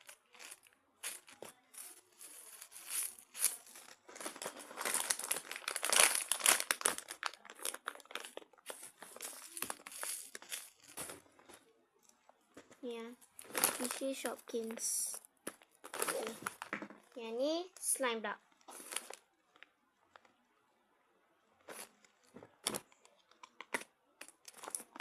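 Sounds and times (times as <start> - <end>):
squishy toys crinkling and rustling: 0.0 - 20.4, 21.6 - 25.0.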